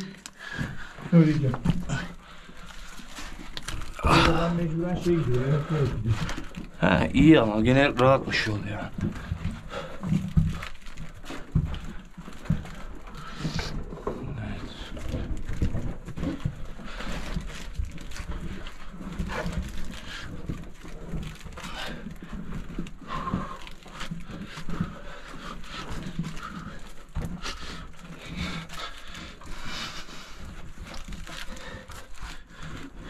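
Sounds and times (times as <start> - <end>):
heavy breathing: 0.0 - 7.3, 8.3 - 33.0
scraping and knocks against rock: 0.0 - 33.0.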